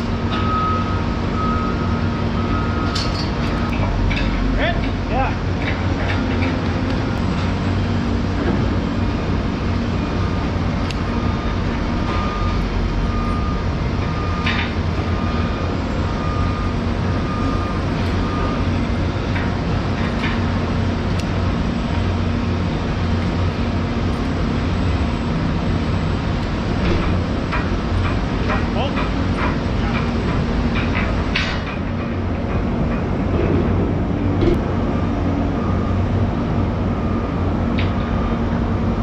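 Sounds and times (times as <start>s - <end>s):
construction machinery drone: 0.0s - 39.0s.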